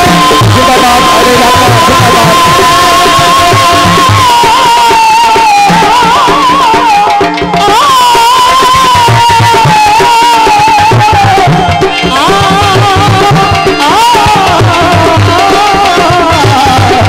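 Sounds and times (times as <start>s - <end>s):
amplified folk singing: 0.0s - 17.0s
drum beats: 0.0s - 17.0s.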